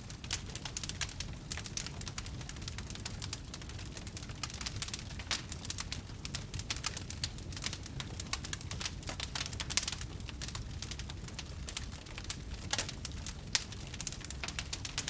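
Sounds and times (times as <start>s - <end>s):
campfire crackling and snapping: 0.0s - 15.0s
low rumble of flames: 0.0s - 15.0s.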